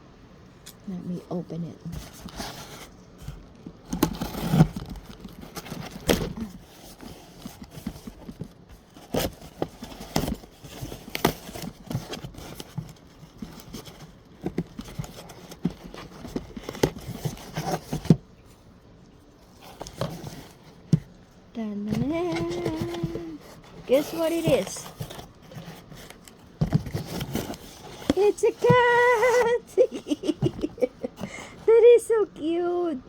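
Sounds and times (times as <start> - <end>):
cardboard box being unpacked: 1.9 - 18.6, 19.3 - 21.2, 21.8 - 32.6.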